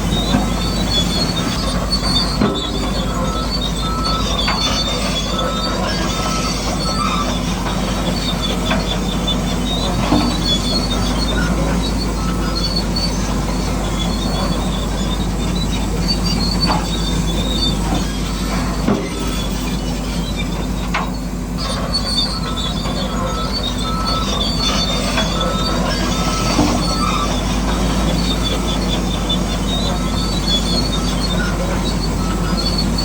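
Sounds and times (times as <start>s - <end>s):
high-pitched squealing: 0.1s - 33.0s.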